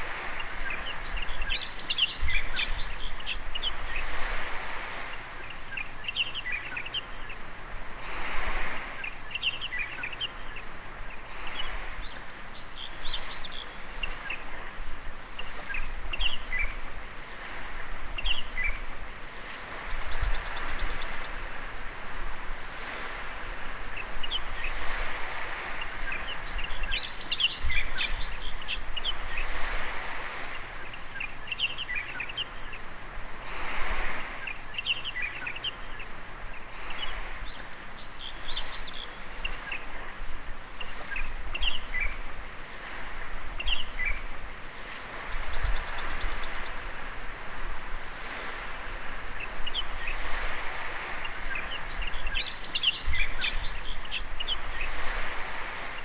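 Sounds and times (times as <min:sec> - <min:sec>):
small birds chirping: 0:00.0 - 0:07.6, 0:08.6 - 0:22.0, 0:22.8 - 0:47.5, 0:48.2 - 0:56.0
small waves washing onto beach: 0:00.0 - 0:56.0.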